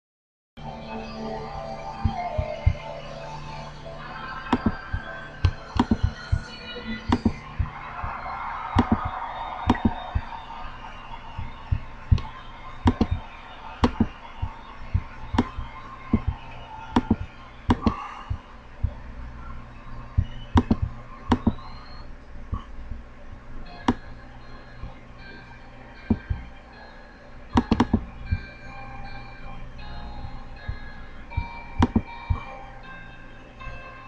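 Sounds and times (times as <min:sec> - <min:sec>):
low steady hum: 0:00.6 - 0:34.0.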